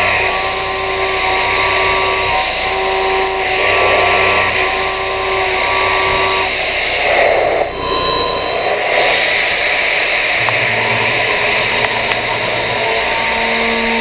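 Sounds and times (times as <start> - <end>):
loud hiss: 0.0 - 14.0
milling machine cutting metal: 0.0 - 14.0.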